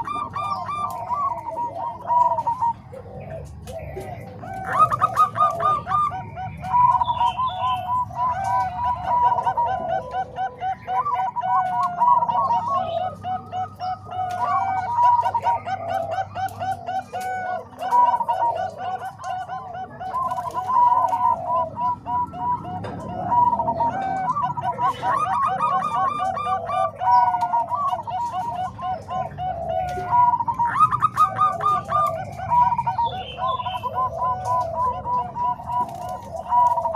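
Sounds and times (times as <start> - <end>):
doves cooing: 0.0 - 36.9.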